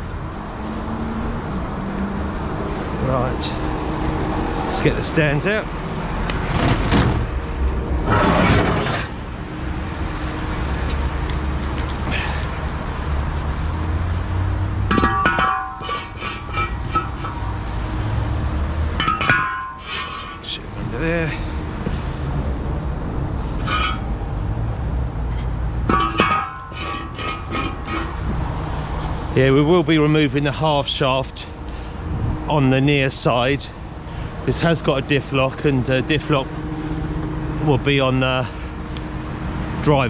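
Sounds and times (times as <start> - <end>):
diesel engine rumbling: 0.0 - 40.0.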